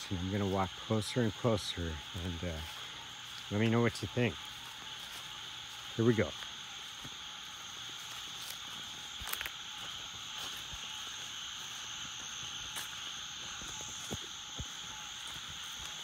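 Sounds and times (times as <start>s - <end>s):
nocturnal wildlife chorus: 0.0s - 16.0s.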